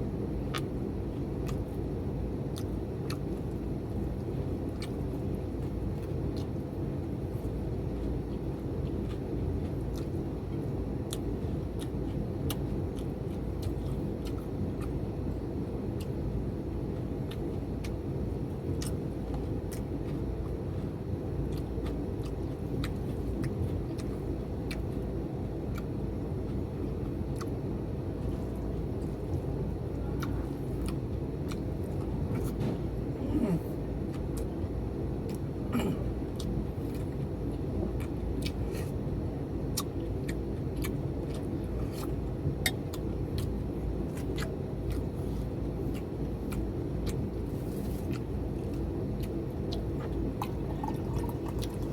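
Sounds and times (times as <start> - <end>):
person eating close up: 0.0 - 51.9
steady low rumble: 0.0 - 51.9.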